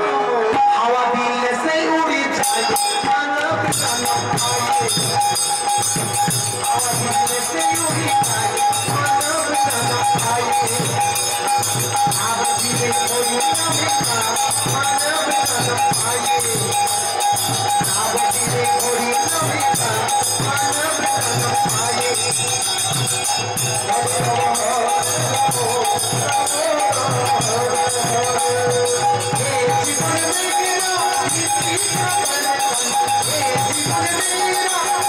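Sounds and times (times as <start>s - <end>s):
drums playing fast rhythm: 1.5s - 35.0s
hand cymbals ringing: 2.4s - 35.0s.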